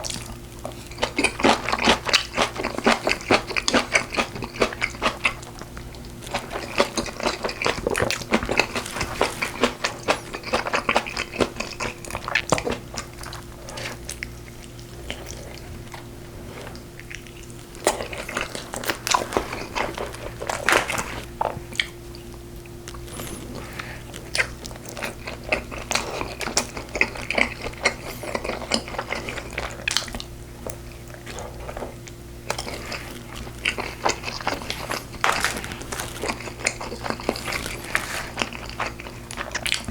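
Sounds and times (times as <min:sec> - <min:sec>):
chewing and crunching: 0:00.0 - 0:39.9
faint steady hum: 0:00.0 - 0:39.9.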